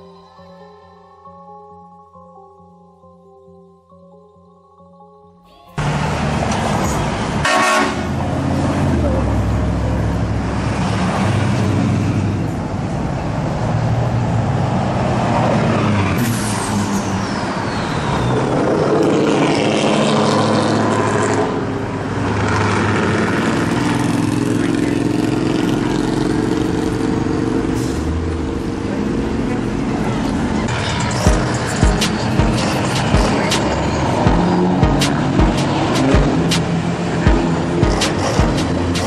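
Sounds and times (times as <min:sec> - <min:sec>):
road and traffic noise: 0:05.7 - 0:39.0
pickup trucks driving past: 0:05.8 - 0:39.0.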